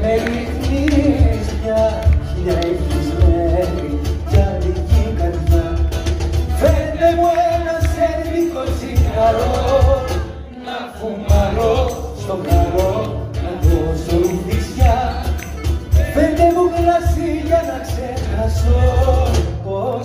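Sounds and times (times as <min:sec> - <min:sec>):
hand drum beat: 0:00.0 - 0:10.4, 0:11.2 - 0:19.7
guitars: 0:00.0 - 0:20.0
person singing: 0:00.0 - 0:20.0.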